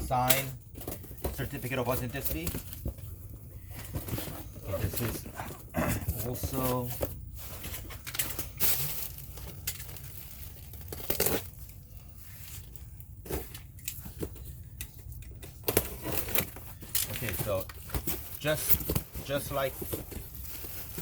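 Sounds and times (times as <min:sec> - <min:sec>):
packing material rustling: 0:00.0 - 0:21.0.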